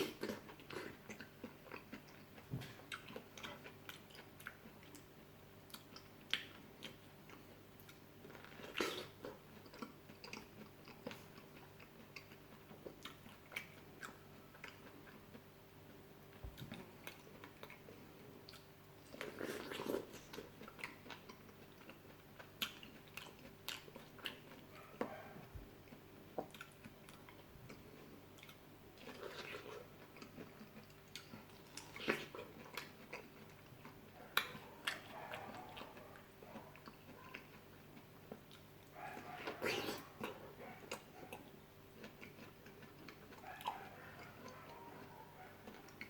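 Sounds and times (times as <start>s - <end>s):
fruit being bitten and chewed: 0.0s - 46.0s.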